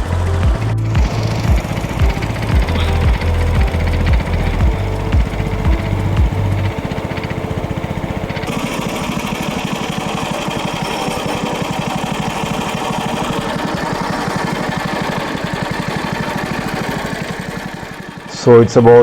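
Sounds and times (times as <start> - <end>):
boat engine puttering: 0.0 - 19.0.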